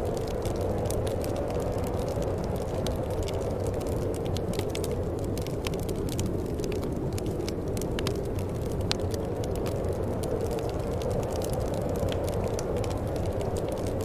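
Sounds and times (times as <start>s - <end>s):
low rumble of flames: 0.0s - 14.0s.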